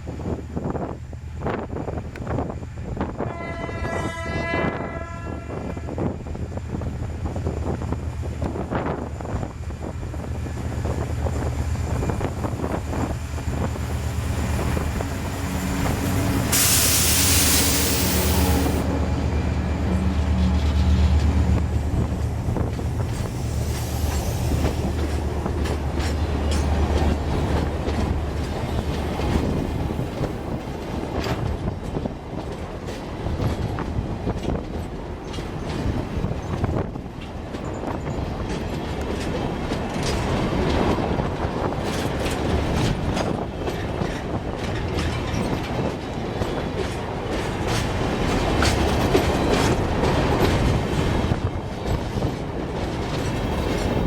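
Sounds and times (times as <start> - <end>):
diesel locomotive drone: 0.0 - 54.0
train wheels clicking on rail joints: 5.6 - 54.0.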